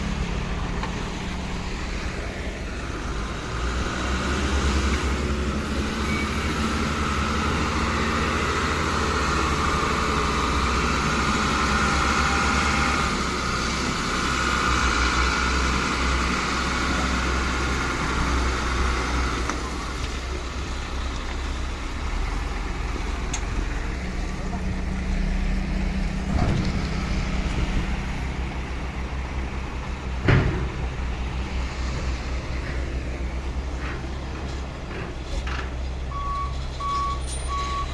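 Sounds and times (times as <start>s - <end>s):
diesel truck engine rumbling: 0.0s - 37.9s.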